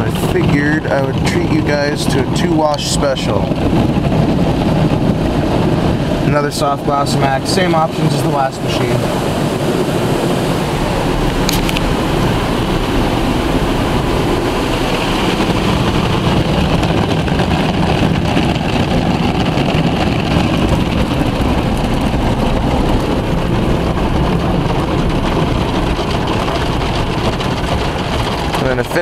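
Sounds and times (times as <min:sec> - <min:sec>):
car wash machine rumble: 0:00.0 - 0:29.0
car wash water spray: 0:00.0 - 0:29.0.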